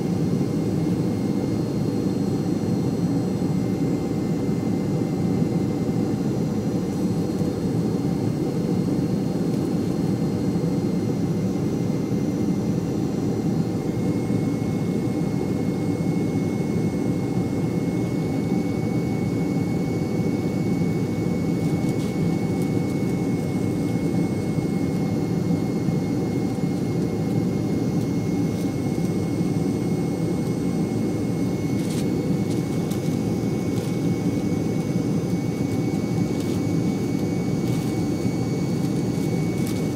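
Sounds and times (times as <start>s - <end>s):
airliner engines droning: 0.0s - 39.9s
faint high whine: 0.0s - 39.9s.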